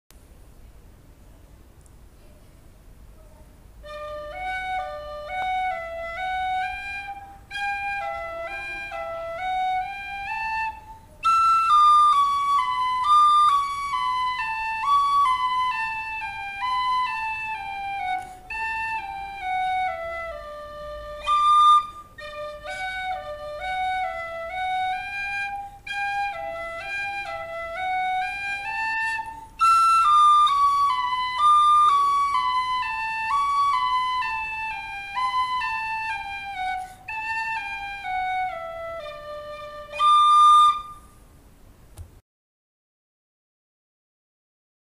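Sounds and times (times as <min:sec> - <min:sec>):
flute melody: 0:03.2 - 0:41.2.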